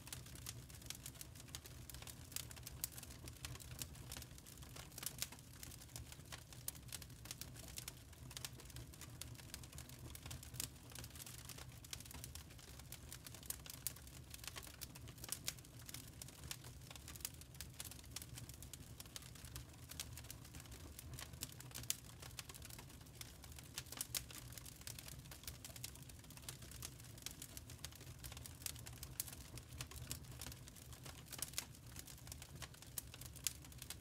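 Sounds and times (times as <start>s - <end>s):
charcoal crackling and popping: 0.0s - 34.0s.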